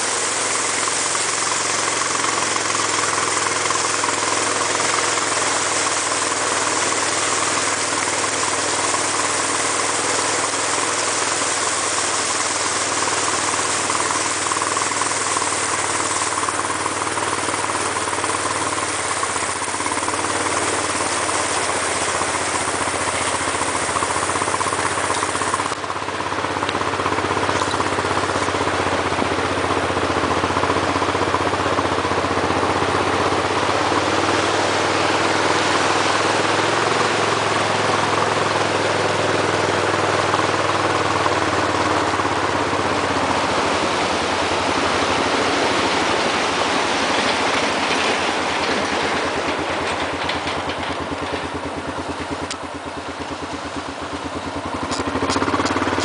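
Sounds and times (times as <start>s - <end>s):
truck engine running: 0.0s - 56.0s
water rushing and splashing: 0.0s - 56.0s.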